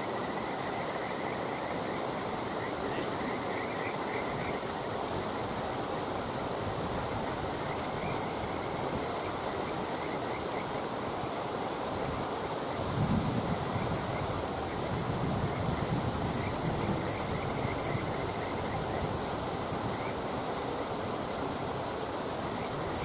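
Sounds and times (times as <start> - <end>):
campfire rushing and hissing: 0.0 - 23.0.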